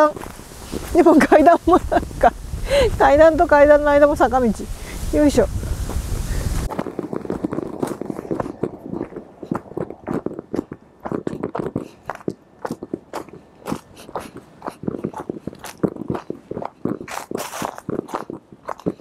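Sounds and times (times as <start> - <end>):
footsteps crunching on dirt: 0.0 - 2.2, 5.5 - 19.0.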